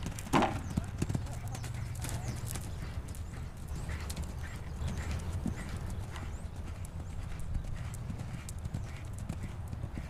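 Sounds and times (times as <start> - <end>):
horse hoofbeats on sand: 0.0 - 10.0
steady low rumble: 0.8 - 10.0.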